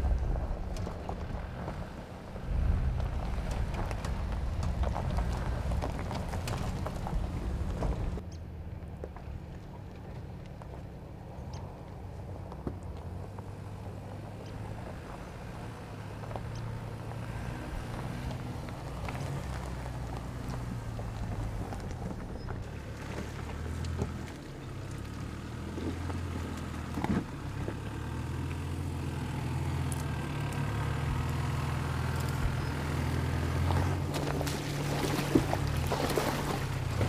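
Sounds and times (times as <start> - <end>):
stones clicking under tyres: 0.0 - 37.0
vehicle engine running low: 0.0 - 37.0.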